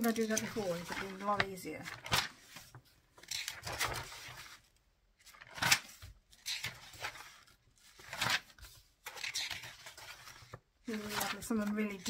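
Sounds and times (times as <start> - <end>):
book pages turning: 0.0 - 12.0.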